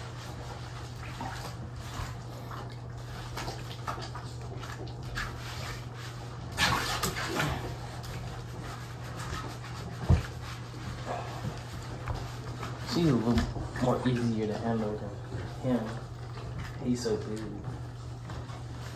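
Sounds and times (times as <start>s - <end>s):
dogs breathing and moving: 0.0s - 18.9s.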